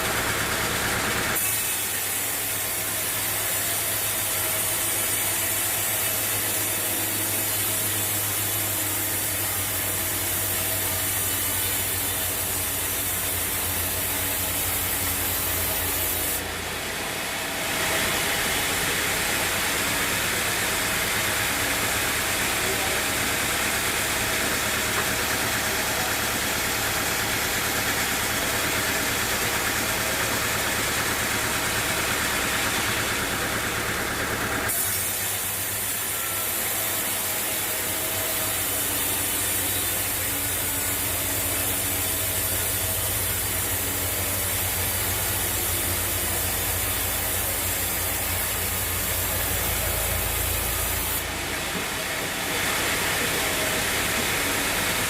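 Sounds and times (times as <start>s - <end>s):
machinery hissing: 0.0s - 55.0s
sawmill engine hum: 0.0s - 55.0s.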